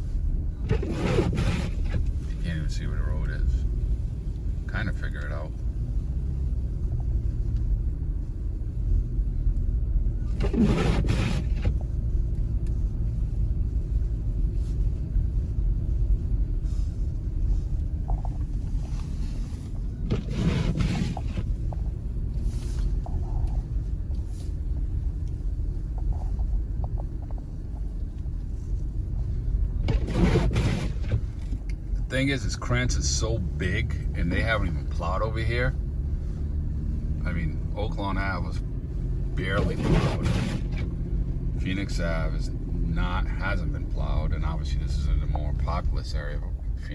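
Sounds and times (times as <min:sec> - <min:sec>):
car driving through snow: 0:00.0 - 0:46.9.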